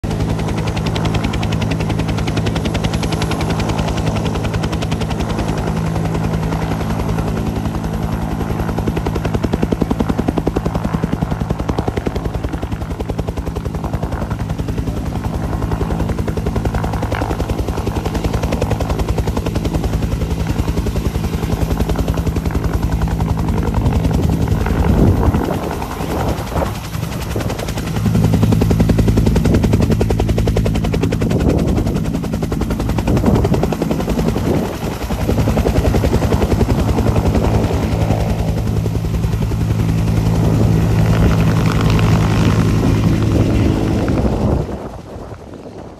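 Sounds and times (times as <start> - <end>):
helicopter rotor chop: 0.0 - 45.9.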